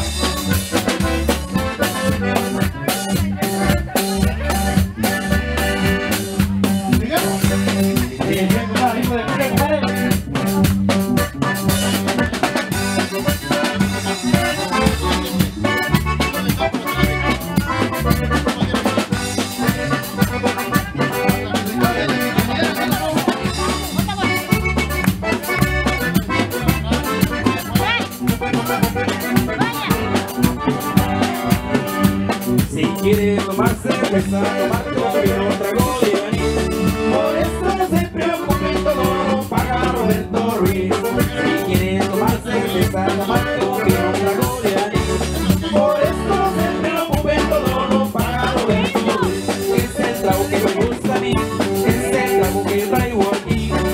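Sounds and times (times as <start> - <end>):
accordion dance music: 0.0 - 53.9
bass line: 0.0 - 53.9
drums: 0.0 - 53.9.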